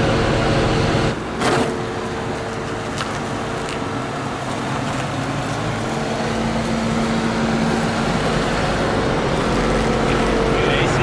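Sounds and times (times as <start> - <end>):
car engine running with misfire: 0.0 - 11.0.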